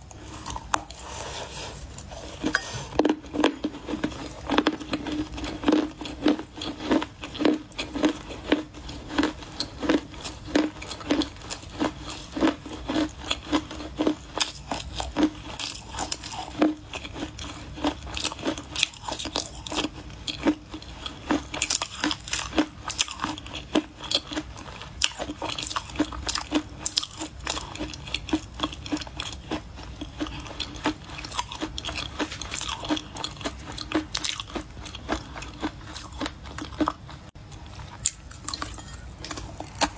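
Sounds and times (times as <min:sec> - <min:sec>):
dry clay crunching when chewed: 0:00.0 - 0:39.9.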